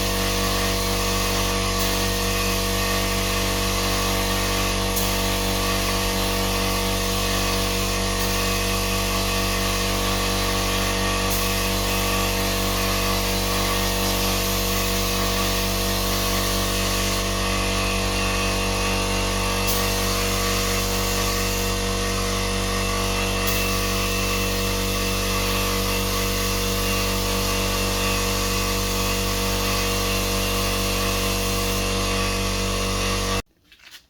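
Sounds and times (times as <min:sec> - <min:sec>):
heat gun motor whine: 0:00.0 - 0:33.4.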